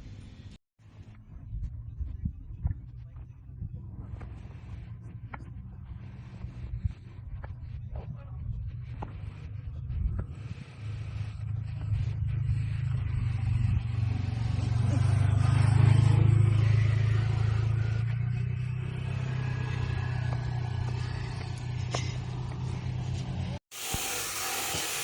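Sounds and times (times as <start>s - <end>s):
motor engine rumbling: 0.0s - 25.0s.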